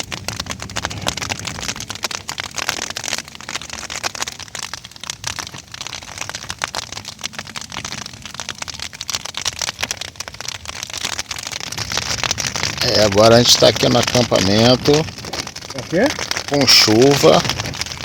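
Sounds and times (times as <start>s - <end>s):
low rumble: 0.0s - 18.0s
rain drops crackling: 0.0s - 18.0s.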